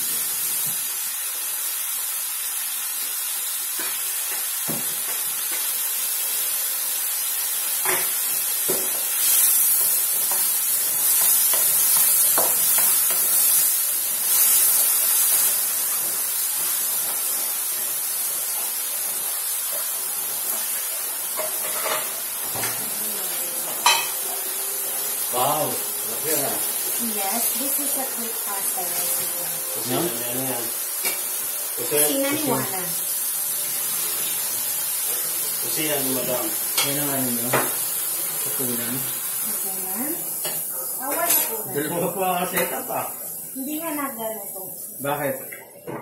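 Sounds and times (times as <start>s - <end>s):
mushrooms sizzling in a wok: 0.0s - 46.0s.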